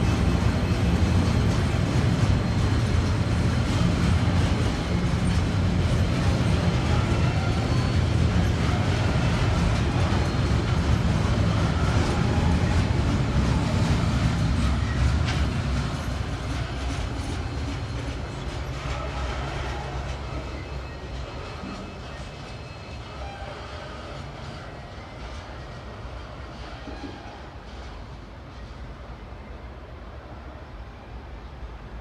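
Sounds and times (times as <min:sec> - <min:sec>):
train wheels clicking over rails: 0:00.0 - 0:28.1.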